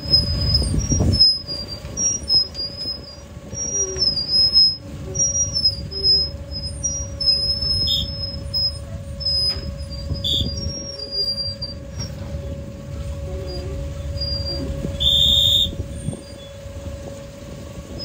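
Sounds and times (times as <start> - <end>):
engine and deck machinery rumbling: 0.0 - 18.0
high-pitched wavering squeals: 0.0 - 18.0.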